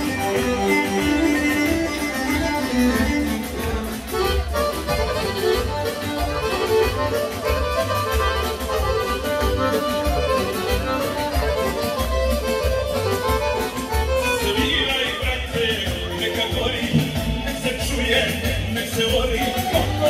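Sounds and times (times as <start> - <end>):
folk dance music over loudspeakers: 0.0 - 20.0.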